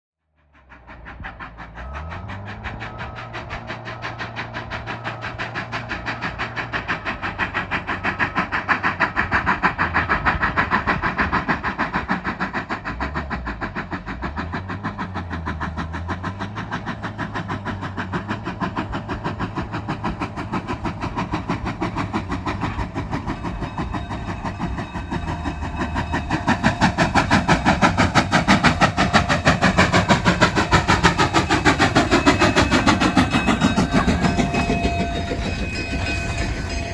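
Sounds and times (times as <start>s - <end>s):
steam locomotive chuffing: 0.3s - 36.9s.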